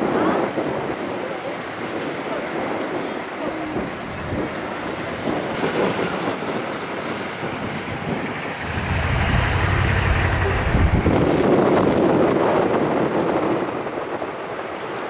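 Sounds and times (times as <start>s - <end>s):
street traffic: 0.0s - 15.0s
heavy vehicle engine rumble: 0.9s - 13.1s.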